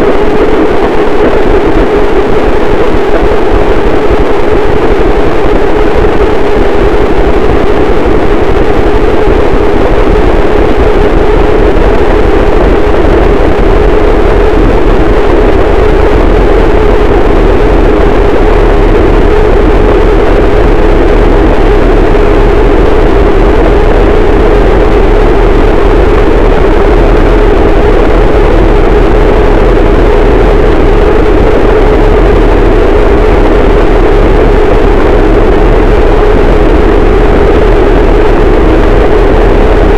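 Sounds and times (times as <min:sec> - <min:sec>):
deep rumble: 0:00.0 - 0:39.9
distorted static noise: 0:00.0 - 0:39.9.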